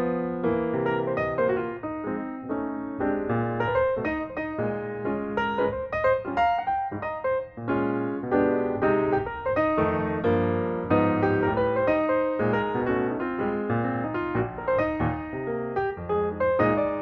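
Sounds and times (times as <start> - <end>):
piano-led background music: 0.0 - 17.0.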